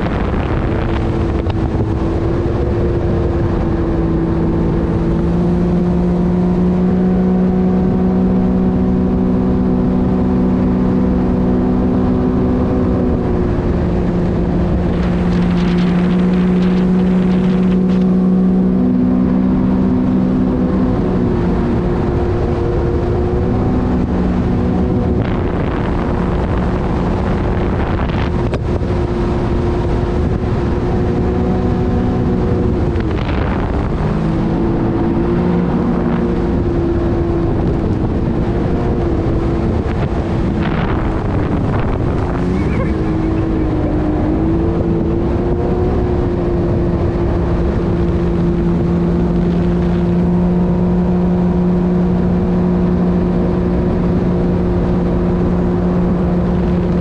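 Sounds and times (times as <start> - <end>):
rushing water: 0.0 - 57.0
watercraft engine droning: 0.0 - 57.0
wind noise: 0.0 - 57.0.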